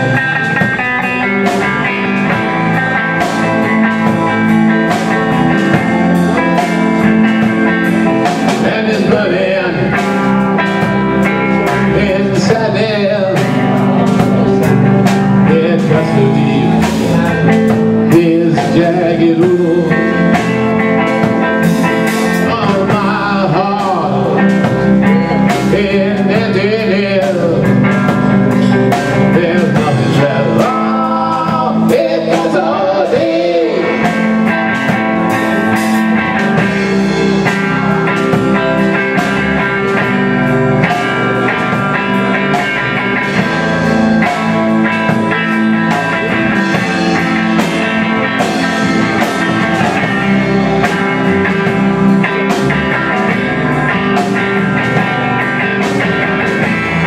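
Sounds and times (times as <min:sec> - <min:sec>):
blues-rock band playing: 0:00.0 - 0:57.0
lead guitar bending notes: 0:00.0 - 0:57.0.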